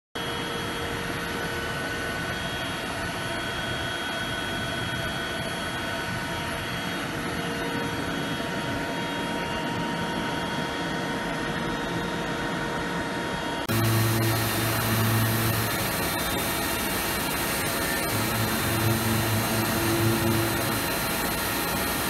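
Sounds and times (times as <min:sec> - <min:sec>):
milling machine hum and whine: 0:00.3 - 0:22.0.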